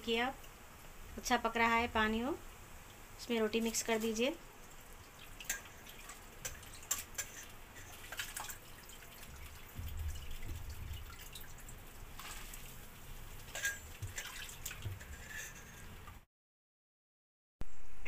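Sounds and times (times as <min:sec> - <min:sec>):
gravy boiling with small pops: 0:00.1 - 0:01.4, 0:02.3 - 0:16.2.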